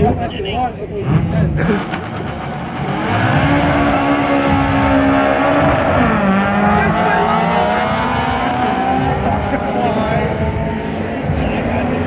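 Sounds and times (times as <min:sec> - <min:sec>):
car engine accelerating: 0:00.9 - 0:12.0.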